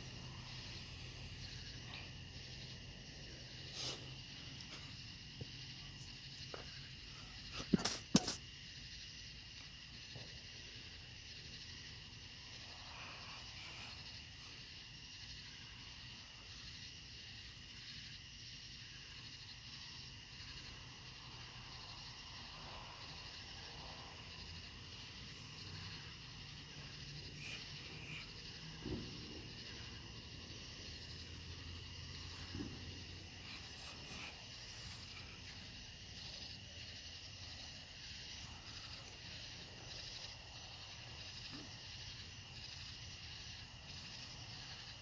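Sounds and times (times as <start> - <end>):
night insects chirring: 0.0 - 45.0.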